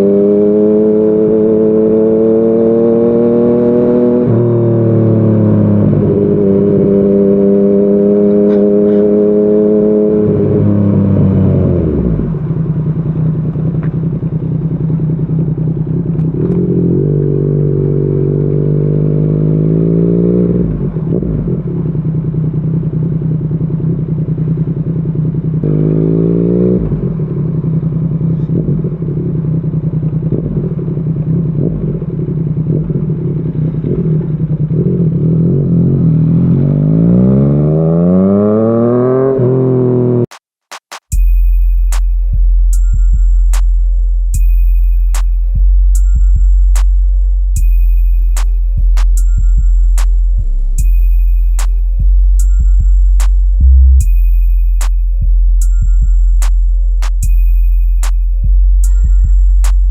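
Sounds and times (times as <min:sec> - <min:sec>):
motorcycle engine revving: 0:00.0 - 0:40.4, 0:41.8 - 0:57.4.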